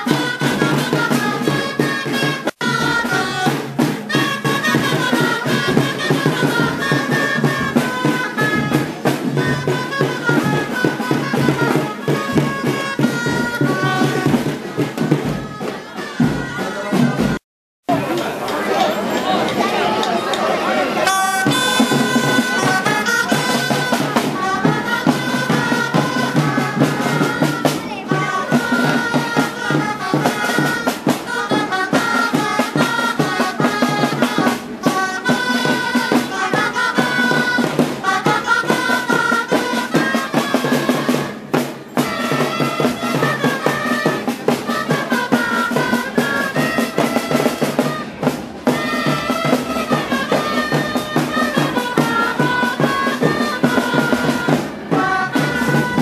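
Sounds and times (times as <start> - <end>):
street band drums and woodwinds: 0.0 - 56.0.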